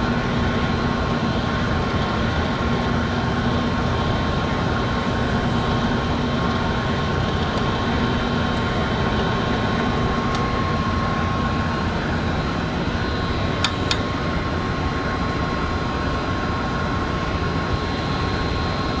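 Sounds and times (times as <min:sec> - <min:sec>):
drill press motor whine: 0:00.0 - 0:19.0.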